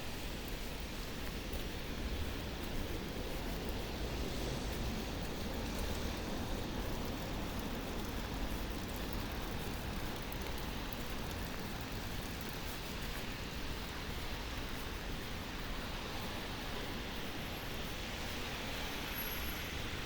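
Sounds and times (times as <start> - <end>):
distant city traffic hum: 0.0 - 20.0
steady rain falling: 0.0 - 20.0.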